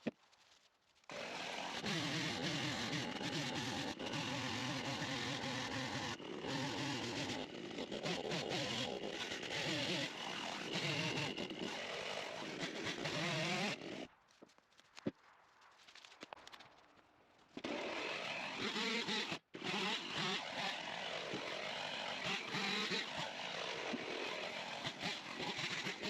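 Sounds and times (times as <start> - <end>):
chainsaw cutting wood: 1.1 - 14.1, 17.6 - 26.0.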